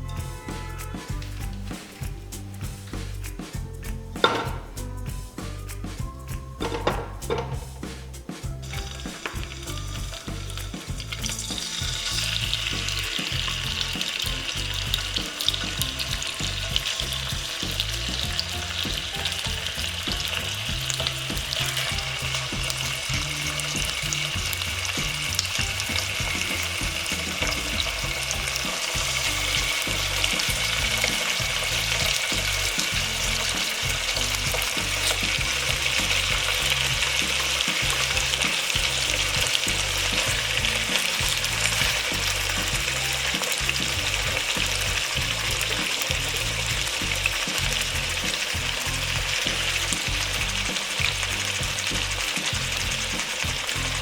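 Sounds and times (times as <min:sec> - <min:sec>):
food sizzling in hot oil: 0:00.0 - 0:54.0
stirring in pan: 0:05.9 - 0:54.0.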